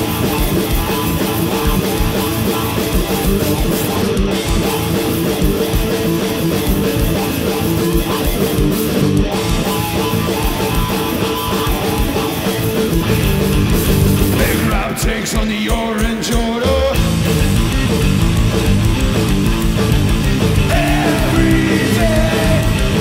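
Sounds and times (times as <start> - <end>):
drum kit: 0.0 - 23.0
electric guitar: 0.0 - 23.0.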